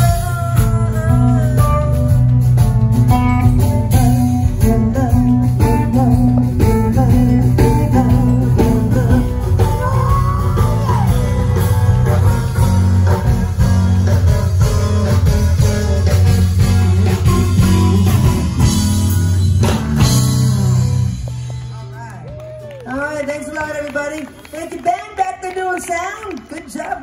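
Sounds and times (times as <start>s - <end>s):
low bass line: 0.0s - 22.6s
live band guitar music: 0.0s - 25.6s.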